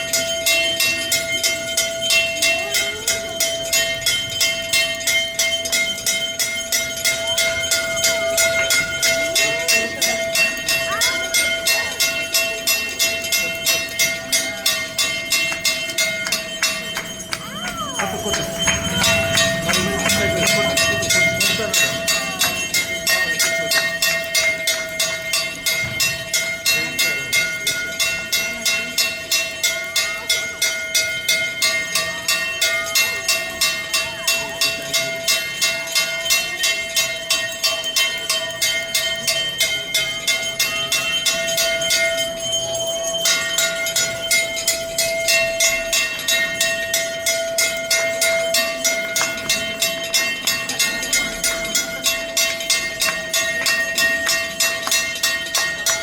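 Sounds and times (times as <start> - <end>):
temple bells ringing: 0.0 - 56.0.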